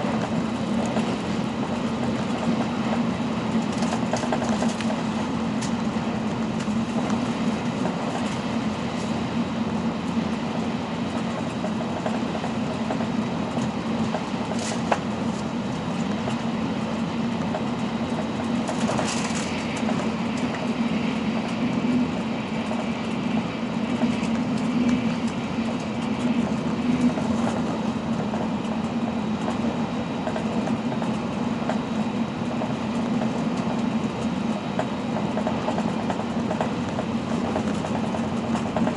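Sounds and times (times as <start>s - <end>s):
train running noise: 0.0s - 38.9s.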